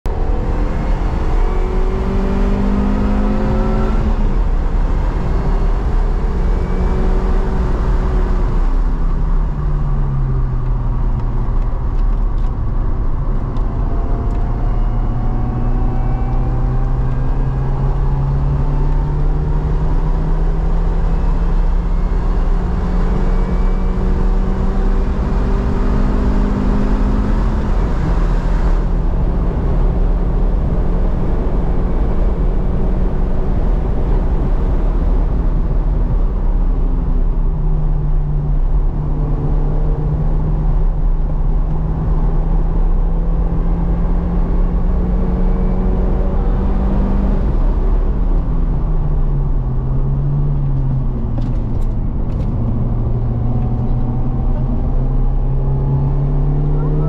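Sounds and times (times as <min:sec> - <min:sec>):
car engine accelerating: 0:00.1 - 0:57.0
road noise: 0:00.1 - 0:57.0
wind noise: 0:00.1 - 0:57.0.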